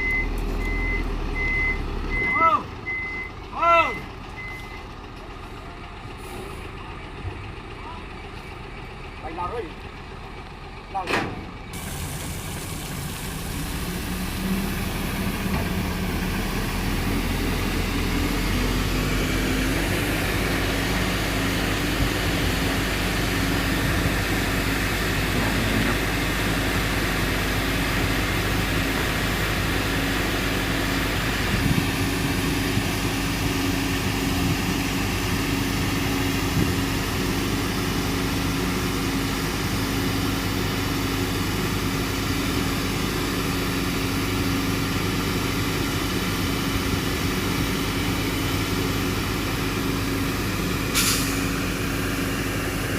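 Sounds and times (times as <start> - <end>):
fire engine engine running: 0.0 - 52.9.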